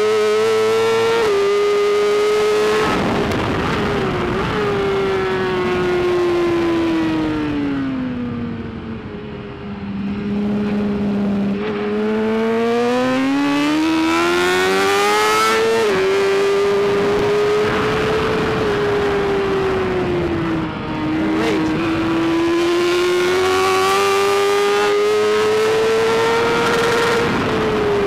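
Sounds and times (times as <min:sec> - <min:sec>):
motorcycle engine revving: 0:00.0 - 0:28.0
wind rush: 0:02.4 - 0:12.0, 0:14.6 - 0:28.0.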